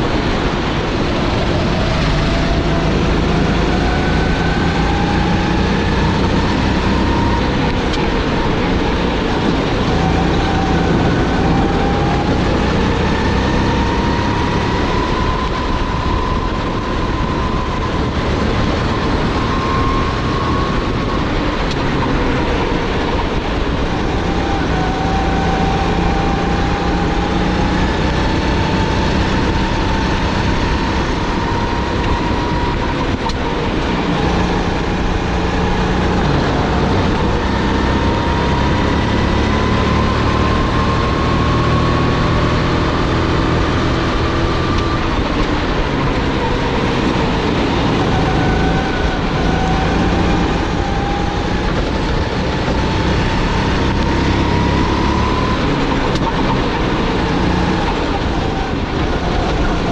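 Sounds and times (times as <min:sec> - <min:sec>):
kart engine at racing speed: 0:00.0 - 0:59.9
rushing noise: 0:00.0 - 0:59.9.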